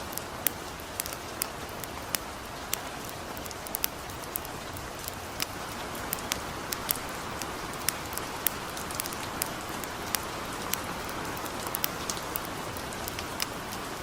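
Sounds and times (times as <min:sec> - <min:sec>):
campfire crackling: 0:00.0 - 0:14.0
gentle rain hissing: 0:00.0 - 0:14.0.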